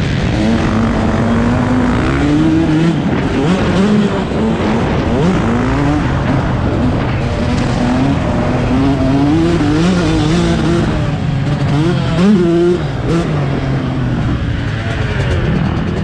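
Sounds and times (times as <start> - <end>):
two-stroke motocross bike engine: 0.0 - 16.0.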